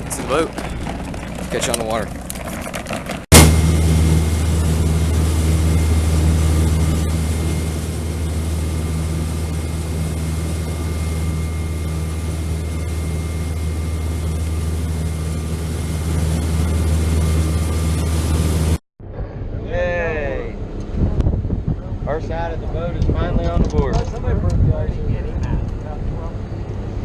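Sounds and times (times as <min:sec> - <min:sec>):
boat engine droning: 0:00.0 - 0:23.3, 0:24.0 - 0:27.0.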